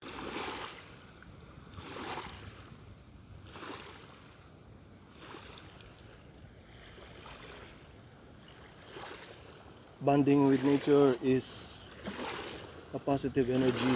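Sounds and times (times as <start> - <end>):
small waves washing onto shore: 0.0 - 13.9.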